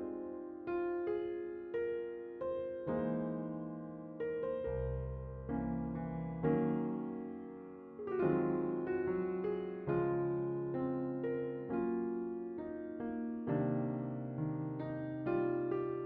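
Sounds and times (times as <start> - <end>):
gentle piano chords: 0.0 - 16.0.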